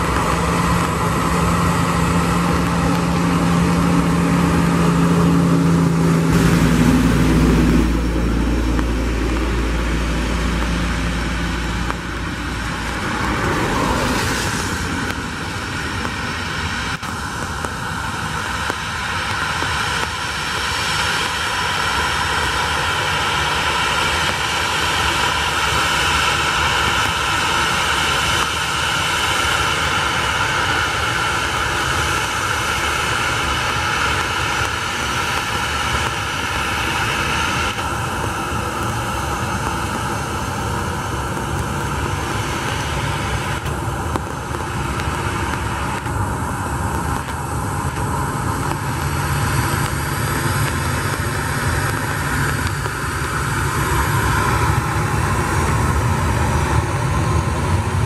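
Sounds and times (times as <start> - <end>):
jet engine low rumble: 0.0 - 58.0
jet engine whine: 0.0 - 58.0.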